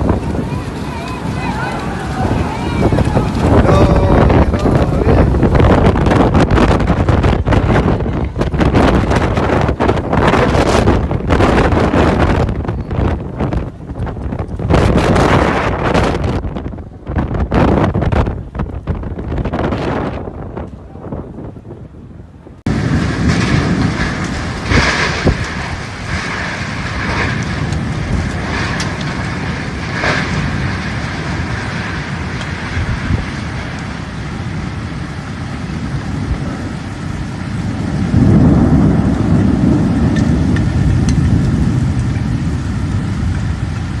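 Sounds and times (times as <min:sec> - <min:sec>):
deep rumble: 0:00.0 - 0:44.0
heavy rain: 0:00.0 - 0:44.0.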